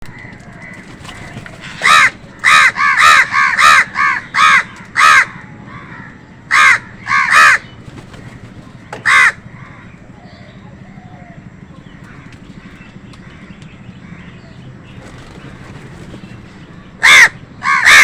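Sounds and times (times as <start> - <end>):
crows cawing: 0.0 - 14.6, 17.0 - 18.0.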